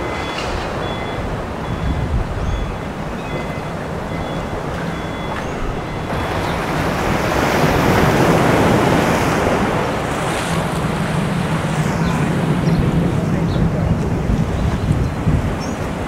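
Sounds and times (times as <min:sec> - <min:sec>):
rushing water: 0:00.0 - 0:16.0
wind on microphone: 0:00.0 - 0:16.0.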